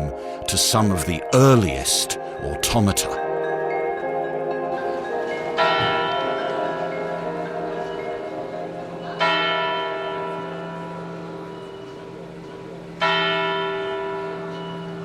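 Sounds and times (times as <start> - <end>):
large tower bell ringing: 0.0 - 15.0.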